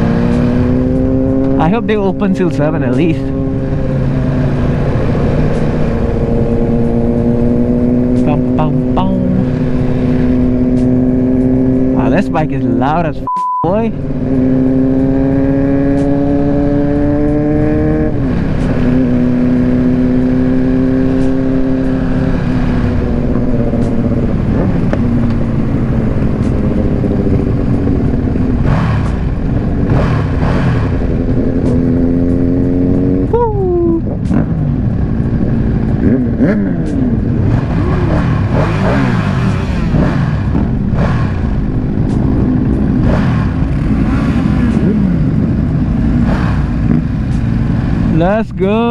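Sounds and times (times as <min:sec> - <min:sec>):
motorcycle engines running: 0:00.0 - 0:48.9.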